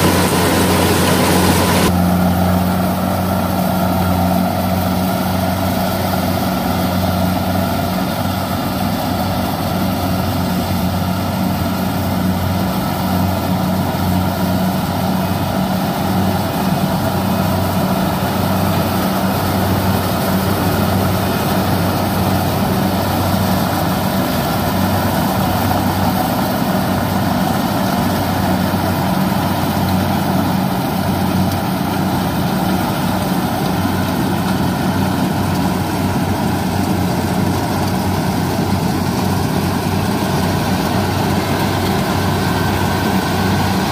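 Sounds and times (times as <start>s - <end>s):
combine harvester diesel engine hum: 0.0s - 43.9s.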